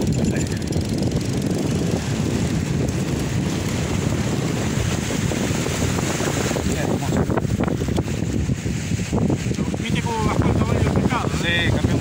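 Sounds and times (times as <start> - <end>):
wind buffeting microphone: 0.0 - 12.0
small waves washing on sand: 1.2 - 12.0.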